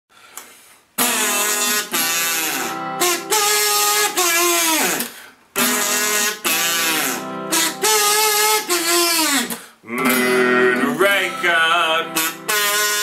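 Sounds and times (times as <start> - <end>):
acoustic guitar: 0.5 - 13.0
harmonica melody: 1.0 - 13.0.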